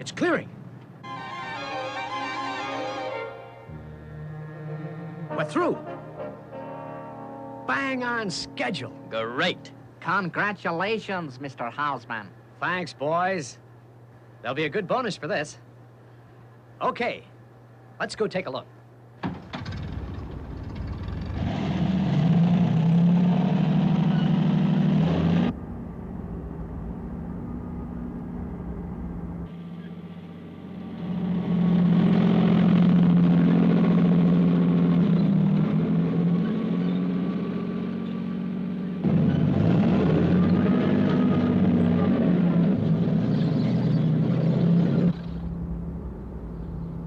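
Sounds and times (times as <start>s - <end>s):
vehicle engine drone: 0.0s - 11.0s, 19.2s - 47.0s.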